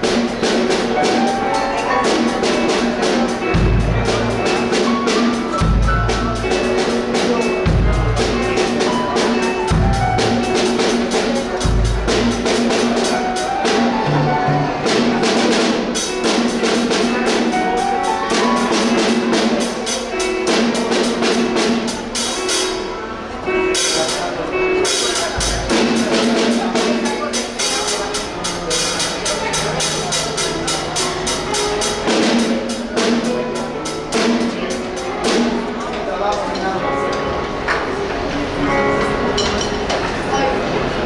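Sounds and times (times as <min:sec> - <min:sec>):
drums beat: 0:00.0 - 0:22.9, 0:23.6 - 0:35.8
deep bass notes: 0:00.0 - 0:36.4
live band playing: 0:00.0 - 0:41.0.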